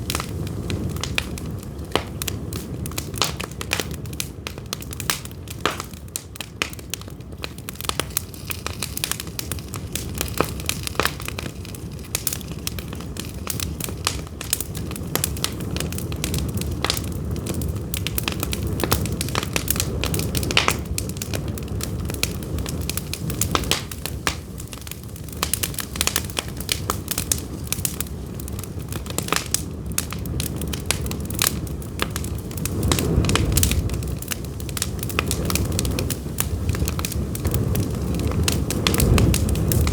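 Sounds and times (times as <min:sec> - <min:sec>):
firewood crackling and popping: 0:00.0 - 0:39.9
low noise of flames: 0:00.0 - 0:39.9.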